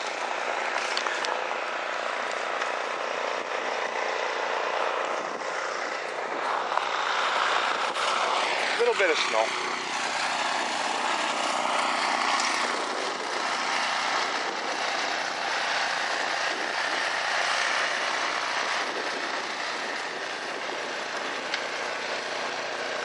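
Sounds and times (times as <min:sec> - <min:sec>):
snowblower running: 0:00.0 - 0:23.0.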